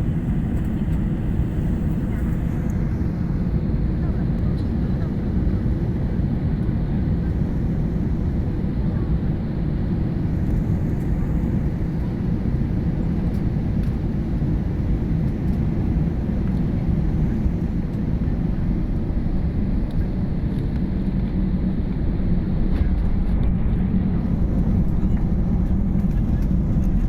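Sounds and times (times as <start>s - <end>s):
airliner engines rumbling: 0.0s - 27.0s.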